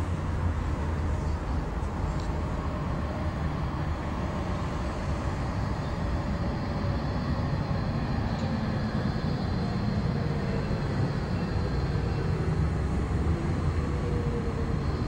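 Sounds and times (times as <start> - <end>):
faint tram motor hum: 0.0 - 15.0
trams rumbling on track: 0.0 - 15.0.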